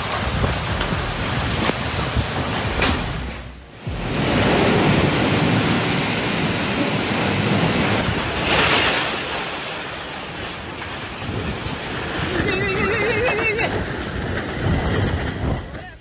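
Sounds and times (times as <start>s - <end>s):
wind buffeting microphone: 0.0s - 8.7s, 10.6s - 16.0s
surf rushing: 0.0s - 16.0s.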